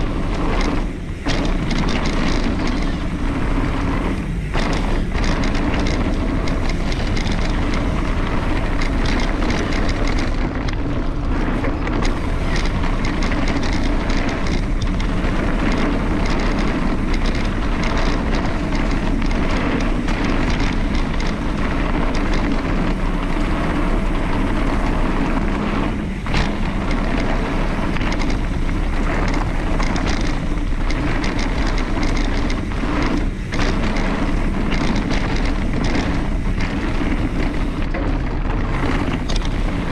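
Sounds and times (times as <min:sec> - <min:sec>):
bike rattling over rough ground: 0:00.0 - 0:39.9
wind rush on microphone: 0:00.0 - 0:39.9.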